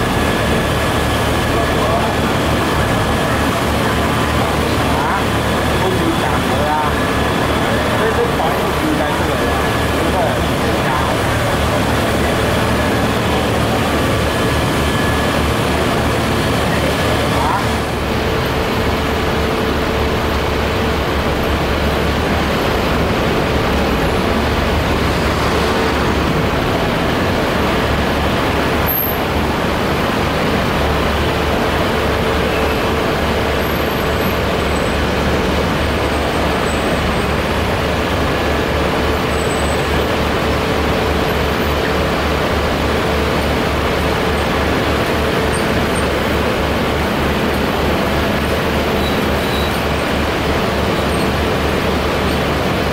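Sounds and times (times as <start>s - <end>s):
heavy vehicle engines rumbling: 0.0s - 52.9s
street traffic: 0.0s - 52.9s.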